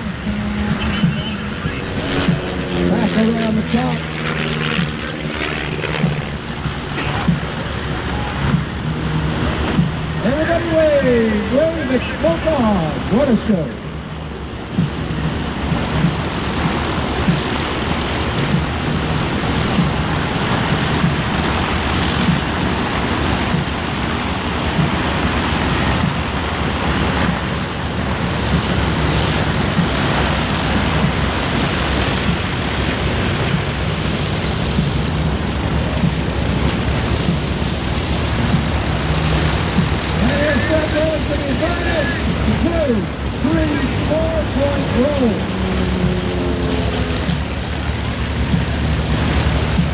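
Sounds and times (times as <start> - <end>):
propeller aircraft engines droning: 0.0 - 49.9.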